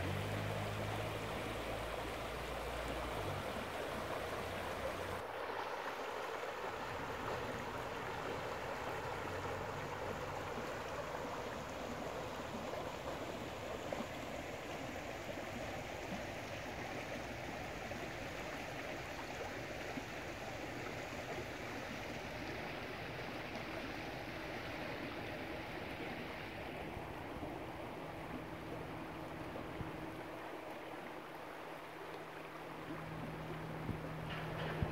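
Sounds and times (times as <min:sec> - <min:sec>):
creek water rushing over stones: 0:00.0 - 0:34.9.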